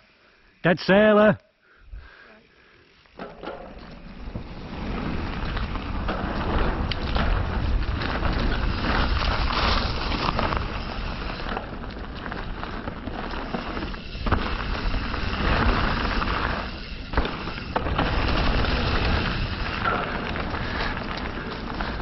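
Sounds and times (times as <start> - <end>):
bike tyre noise: 2.0 - 22.0
crackle and knocks from bike: 3.1 - 22.0.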